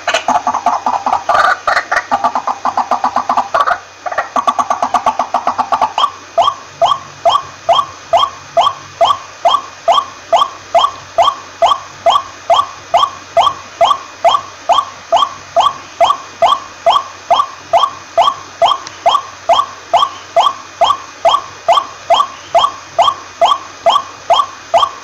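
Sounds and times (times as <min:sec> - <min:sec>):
waterhen calling: 0:00.0 - 0:25.0.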